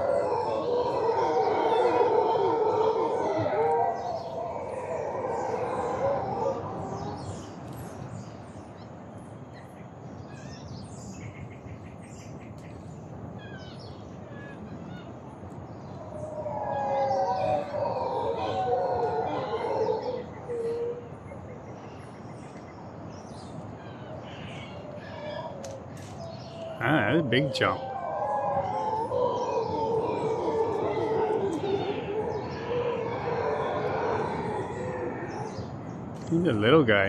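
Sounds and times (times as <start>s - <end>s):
animals howling: 0.0s - 8.2s, 13.4s - 22.2s, 23.1s - 37.0s
birds chirping: 0.0s - 37.0s.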